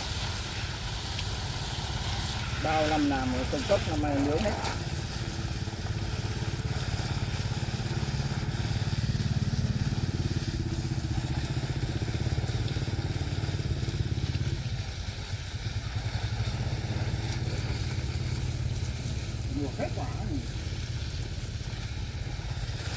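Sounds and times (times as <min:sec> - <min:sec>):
small engine running: 0:00.0 - 0:22.9.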